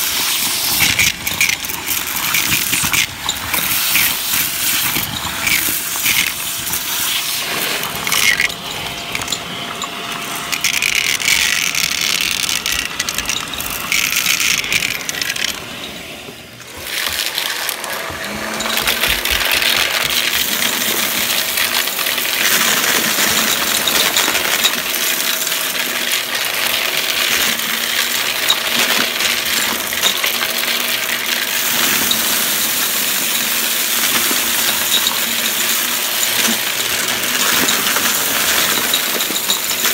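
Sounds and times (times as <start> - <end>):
coins and grit rattling through hose: 0.0 - 39.9
vacuum cleaner sucking up debris: 0.0 - 39.9.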